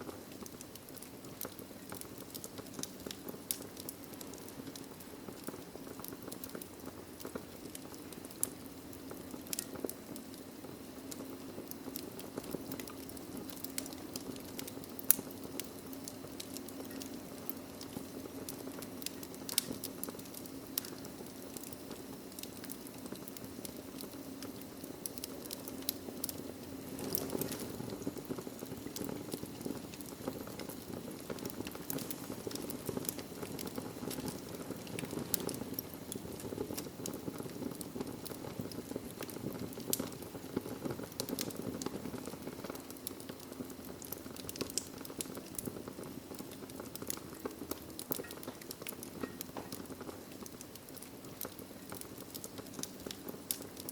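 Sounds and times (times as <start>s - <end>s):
wood fire crackling and popping: 0.0s - 53.9s
rush of flame: 5.0s - 53.9s.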